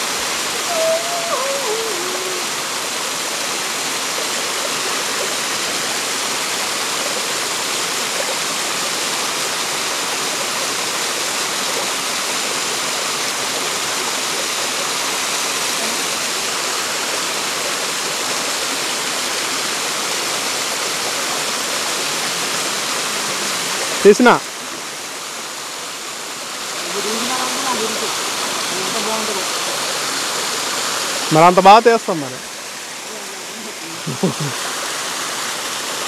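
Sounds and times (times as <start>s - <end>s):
waterfall splashing over rocks: 0.0s - 36.0s.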